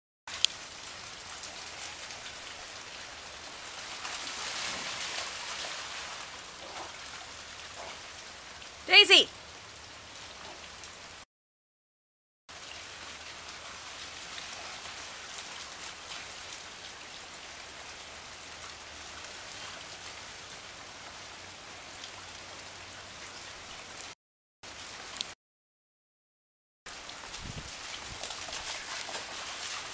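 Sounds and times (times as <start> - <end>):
rain on water and pavement: 0.3 - 11.2, 12.5 - 25.4, 26.9 - 29.9.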